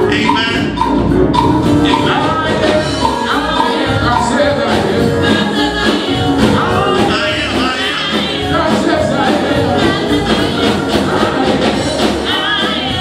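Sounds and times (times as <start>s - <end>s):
gospel singing with full band: 0.0s - 13.0s.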